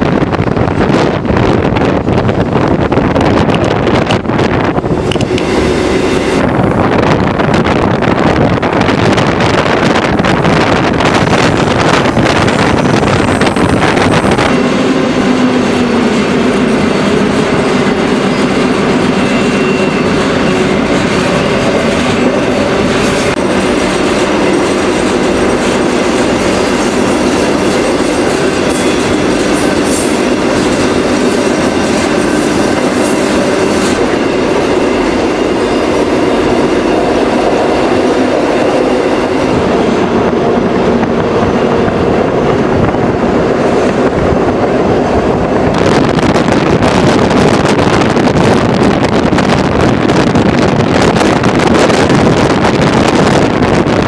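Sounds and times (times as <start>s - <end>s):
train wheels rolling on rail: 0.0s - 54.0s.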